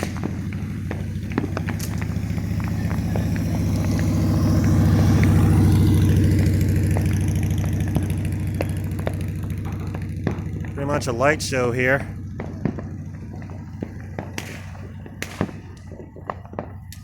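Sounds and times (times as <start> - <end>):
faint firework pops: 0.0 - 17.0
vehicle engine at low revs: 0.0 - 17.0.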